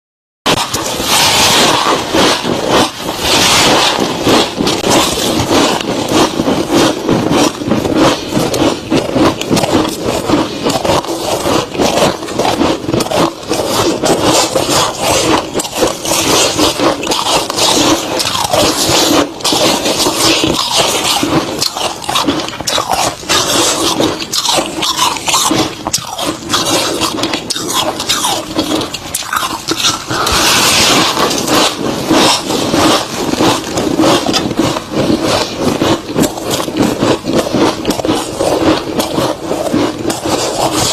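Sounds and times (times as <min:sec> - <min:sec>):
crunching of crispy frost: 0:00.5 - 0:40.9.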